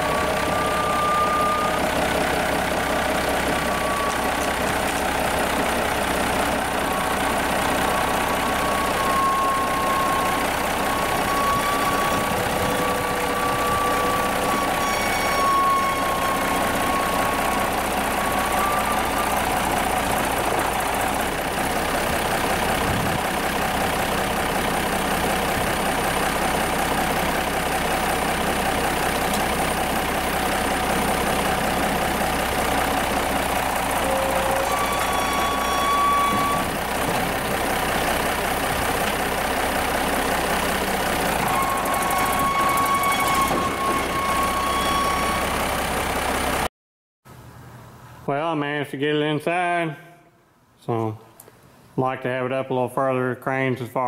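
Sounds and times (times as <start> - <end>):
tractor diesel engine running: 0.0 - 46.7.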